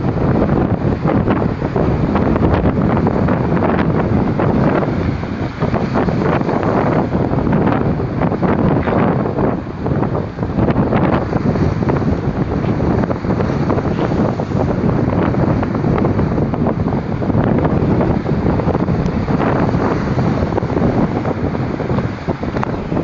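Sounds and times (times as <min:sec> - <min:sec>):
lake waves breaking on shore: 0:00.0 - 0:23.0
strong wind buffeting microphone: 0:00.0 - 0:23.0.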